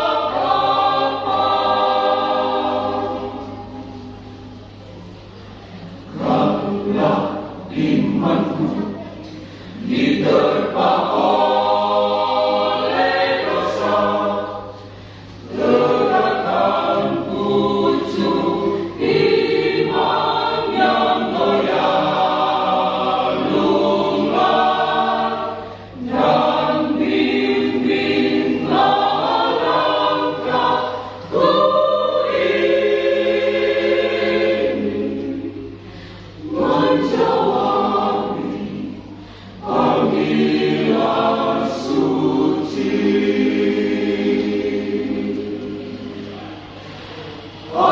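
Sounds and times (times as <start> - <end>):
church choir singing: 0.0 - 47.9.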